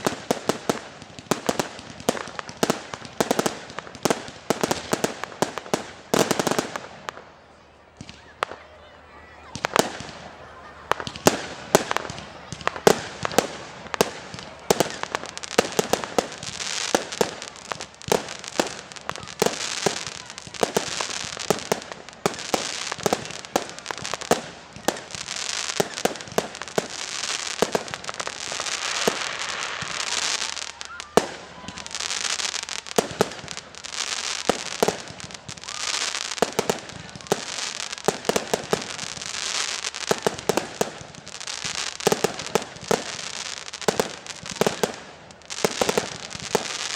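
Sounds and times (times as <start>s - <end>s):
fireworks bangs and pops: 0.0s - 46.9s
fireworks hissing crackle: 0.0s - 46.9s.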